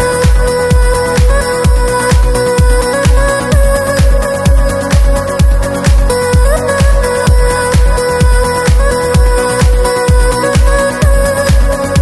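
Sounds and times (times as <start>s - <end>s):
electronic trance music: 0.0s - 12.0s.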